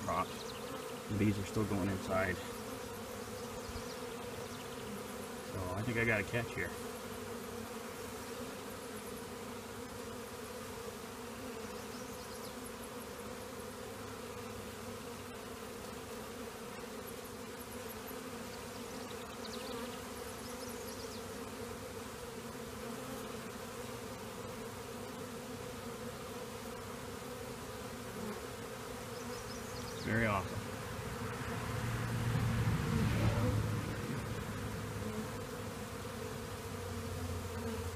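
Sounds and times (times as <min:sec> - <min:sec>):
bees buzzing: 0:00.0 - 0:37.9.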